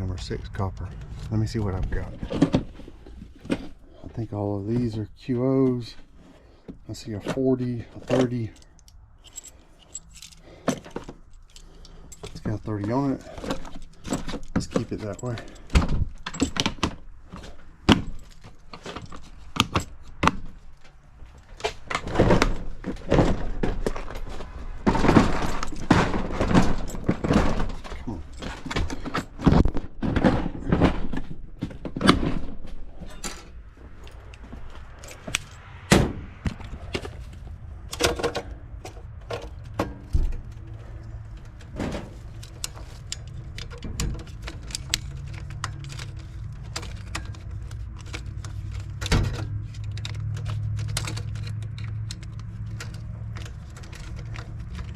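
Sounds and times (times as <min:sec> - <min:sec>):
hard objects clattering: 0:07.9 - 0:35.7, 0:36.4 - 0:54.9.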